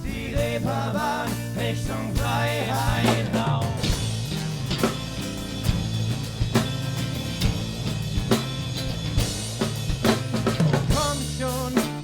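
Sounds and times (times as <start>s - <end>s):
drum kit beat: 0.0s - 12.0s
low bass notes: 0.0s - 12.0s.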